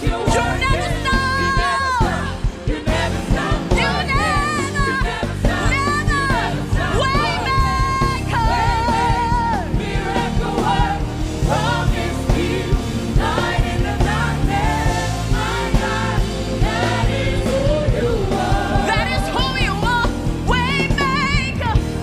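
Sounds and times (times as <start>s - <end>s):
voices singing: 0.0s - 20.2s
gospel band playing: 0.0s - 22.0s.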